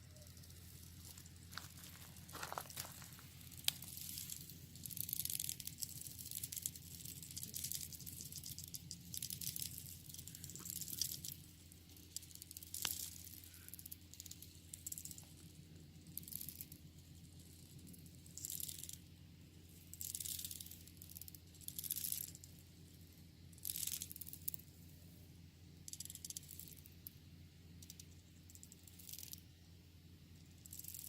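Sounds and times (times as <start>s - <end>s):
termites rattling: 0.0s - 19.0s, 19.6s - 22.6s, 23.6s - 24.6s, 25.9s - 27.2s, 27.8s - 29.5s, 30.4s - 31.0s
steady low hum: 0.0s - 31.0s.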